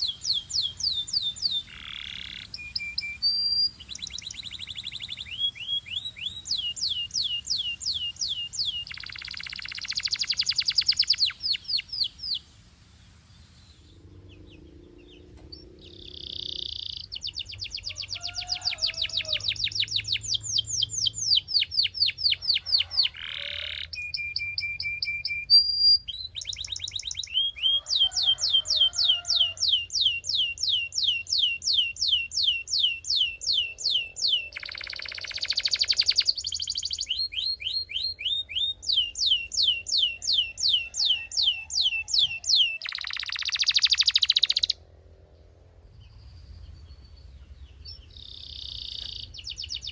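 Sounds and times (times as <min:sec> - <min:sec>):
canary singing trills: 0:00.0 - 0:12.5, 0:13.1 - 0:44.8, 0:46.2 - 0:49.9.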